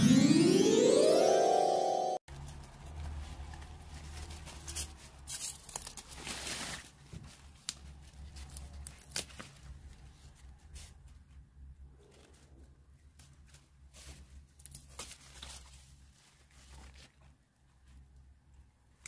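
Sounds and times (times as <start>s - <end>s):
rustling and crinkling: 2.3s - 18.6s.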